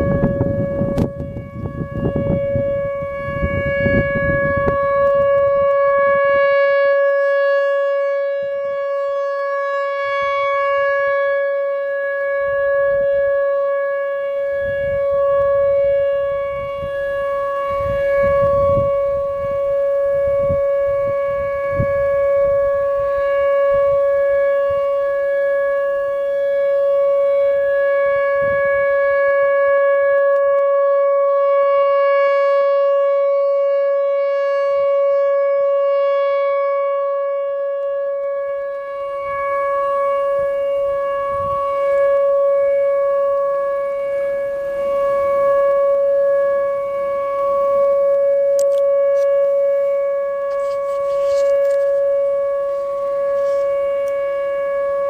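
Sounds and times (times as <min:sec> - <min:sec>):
siren steady alert tone: 0:00.0 - 0:55.0.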